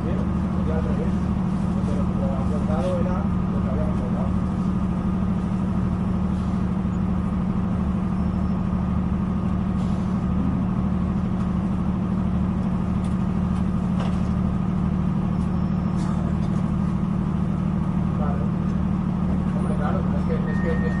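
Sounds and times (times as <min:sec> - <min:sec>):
train engine hum inside carriage: 0:00.0 - 0:21.0.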